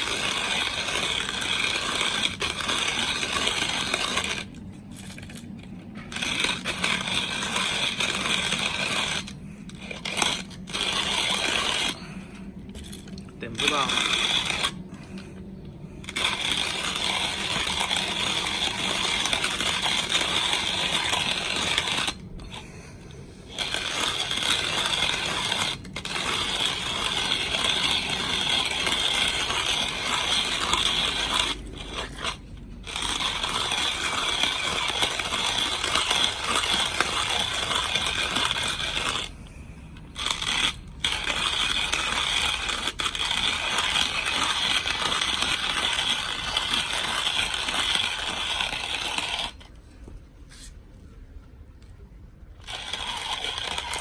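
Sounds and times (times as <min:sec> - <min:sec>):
hand coffee grinder grinding beans: 0:00.0 - 0:49.8, 0:52.6 - 0:54.0.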